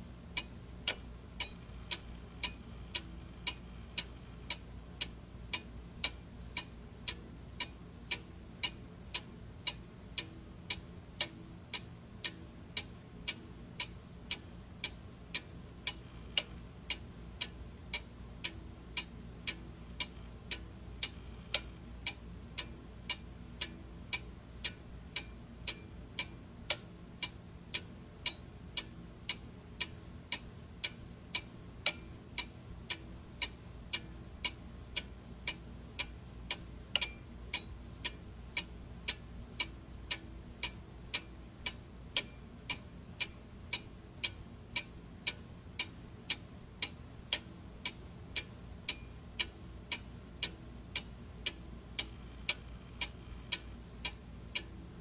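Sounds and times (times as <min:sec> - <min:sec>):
faint low hum: 0:00.0 - 0:55.0
clock ticking: 0:00.3 - 0:54.9.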